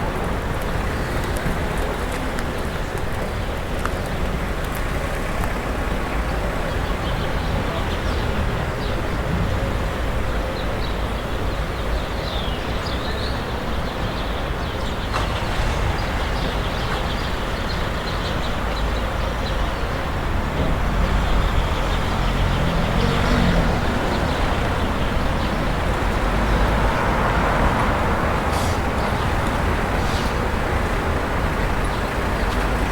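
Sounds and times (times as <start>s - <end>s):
passing cars rumbling: 0.0s - 12.1s, 13.0s - 32.9s.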